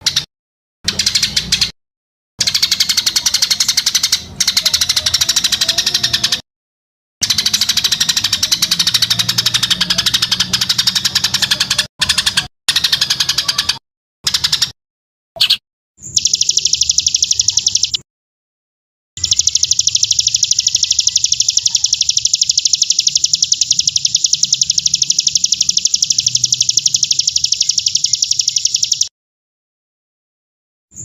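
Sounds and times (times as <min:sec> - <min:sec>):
recorded bird trill: 0:00.9 - 0:01.7, 0:02.4 - 0:06.4, 0:07.2 - 0:14.8, 0:15.4 - 0:18.0, 0:19.2 - 0:29.1.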